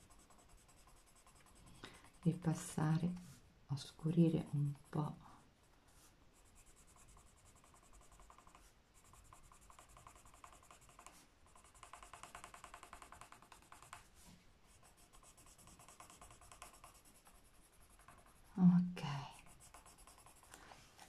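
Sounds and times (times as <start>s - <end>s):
pencil scratching on paper: 0.0s - 3.4s, 4.2s - 5.1s, 5.9s - 18.6s, 19.3s - 21.0s.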